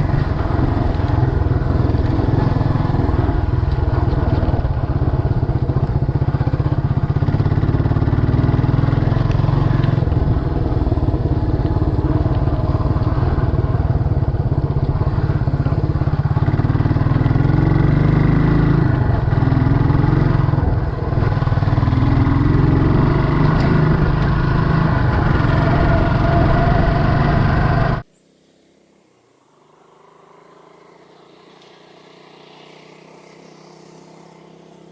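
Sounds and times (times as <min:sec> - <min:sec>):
motorcycle engine revving: 0:00.0 - 0:28.1, 0:30.1 - 0:34.9.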